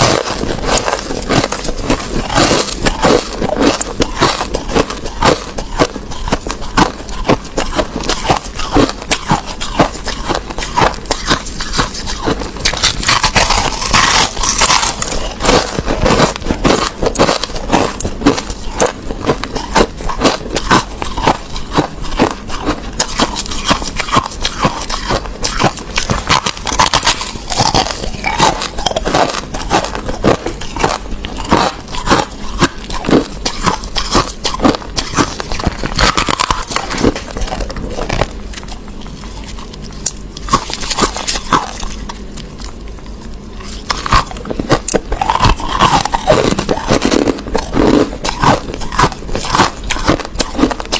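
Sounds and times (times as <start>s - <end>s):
chewing crushed ice: 0.0s - 50.9s.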